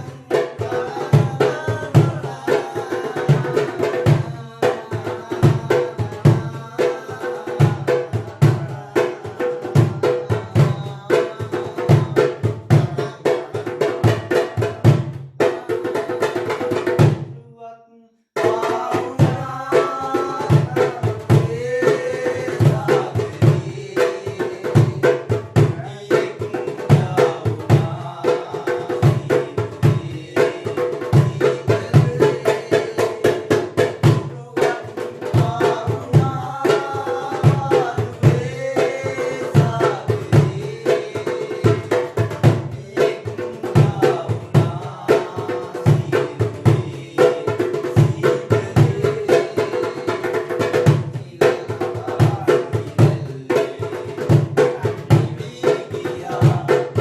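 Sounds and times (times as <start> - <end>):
hand drum rhythm: 0.0 - 17.4, 18.4 - 57.0.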